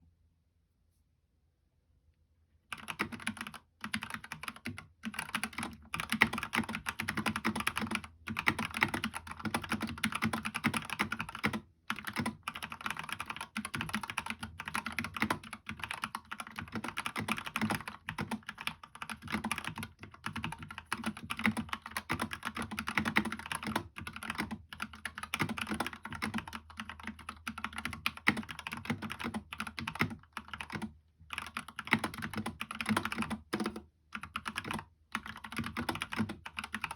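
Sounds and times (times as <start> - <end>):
fast typing on mechanical keyboard: 2.7 - 36.9.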